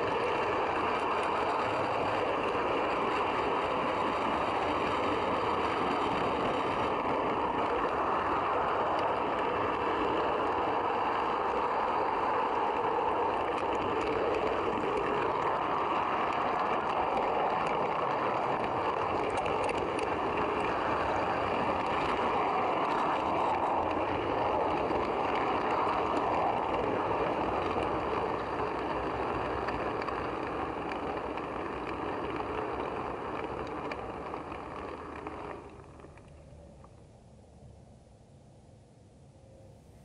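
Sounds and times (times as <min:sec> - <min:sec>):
model train wheels rattling: 0:00.0 - 0:36.6.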